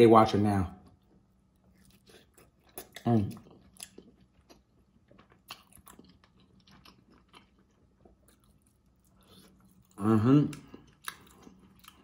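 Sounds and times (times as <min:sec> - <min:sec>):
wet chewing and smacking: 0:00.8 - 0:12.0.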